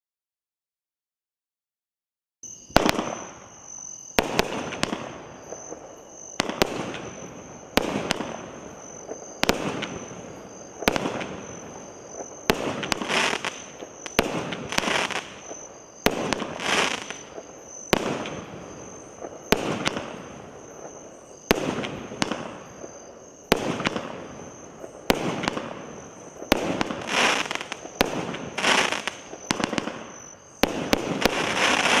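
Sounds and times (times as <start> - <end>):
fireworks bangs: 2.7 - 32.0
fireworks crackling: 2.7 - 32.0.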